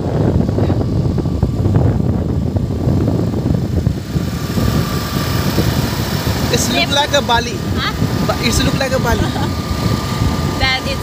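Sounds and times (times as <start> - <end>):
motorbike engine: 0.0 - 11.0
wind buffeting microphone: 0.0 - 11.0.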